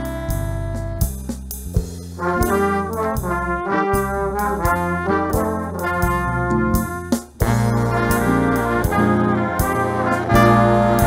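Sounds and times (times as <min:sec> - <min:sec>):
background music with bass and drums: 0:00.0 - 0:11.0.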